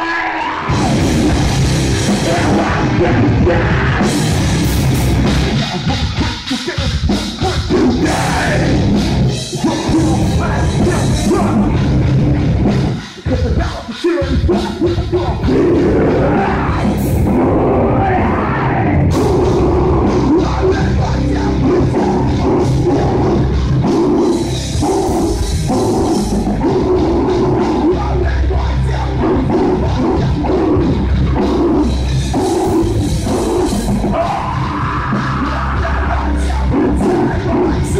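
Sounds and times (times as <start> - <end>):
distorted electric guitars: 0.0 - 37.9
drums: 0.0 - 37.9.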